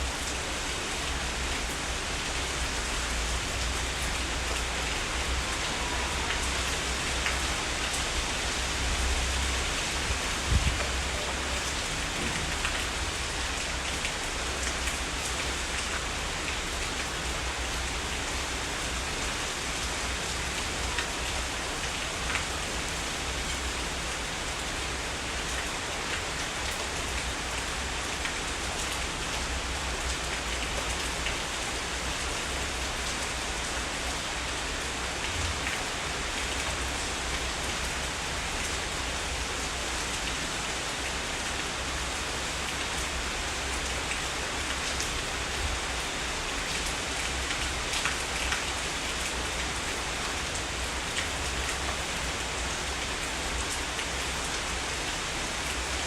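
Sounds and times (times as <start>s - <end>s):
heavy rain hiss: 0.0s - 56.0s.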